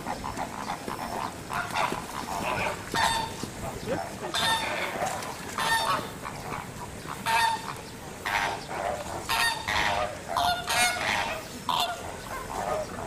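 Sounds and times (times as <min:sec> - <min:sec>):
flamingos honking: 0:00.0 - 0:13.0.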